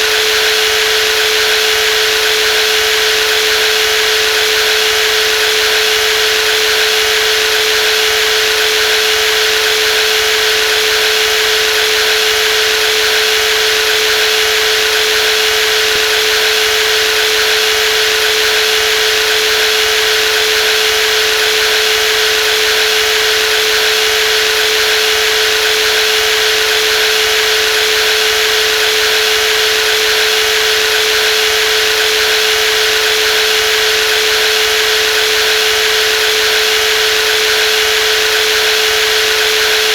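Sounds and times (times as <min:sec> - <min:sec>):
jigsaw running: 0:00.0 - 0:39.9.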